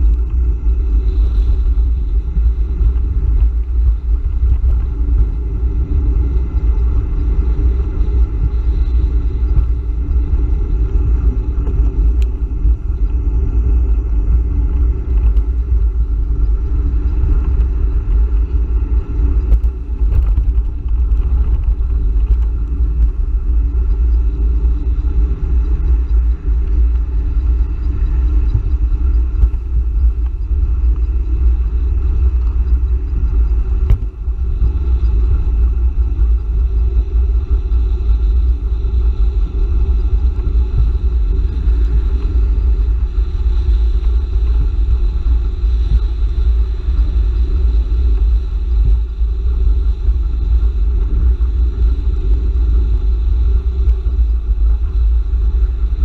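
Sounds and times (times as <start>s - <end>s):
road rumble: 0.0s - 56.0s
wind on microphone: 0.0s - 56.0s.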